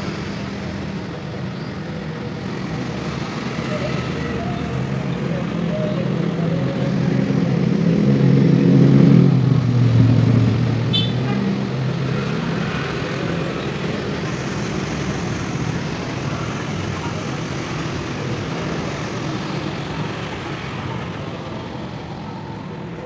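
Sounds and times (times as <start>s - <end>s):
motorbike and car traffic passing: 0.0s - 23.0s.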